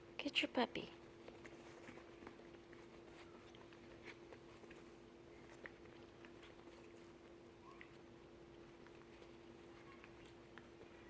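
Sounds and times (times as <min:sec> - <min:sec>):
puppy claws on floor: 0:01.0 - 0:11.0
puppies mouthing toys: 0:01.3 - 0:11.0.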